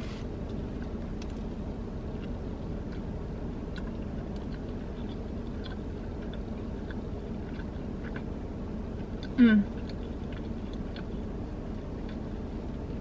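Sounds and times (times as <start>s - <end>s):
steady low hum: 0.0s - 13.0s
person chewing: 0.4s - 13.0s.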